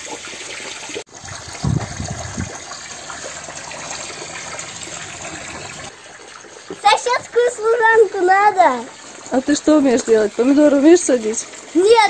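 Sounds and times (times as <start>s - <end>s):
hose water gushing and splashing: 0.0s - 12.0s.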